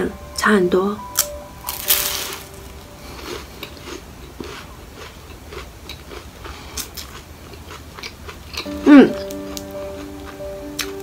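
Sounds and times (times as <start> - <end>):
chewing pastry: 1.7 - 11.0.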